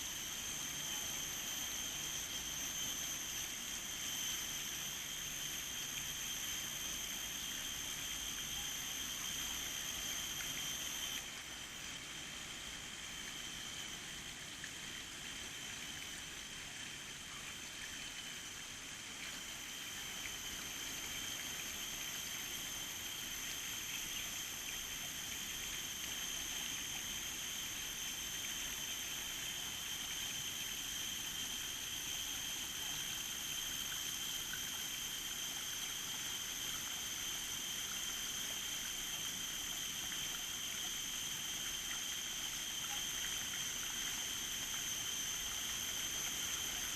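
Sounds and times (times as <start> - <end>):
high-pitched whine: 0.0 - 11.3, 19.2 - 46.9
outdoor water ambience: 0.0 - 46.9.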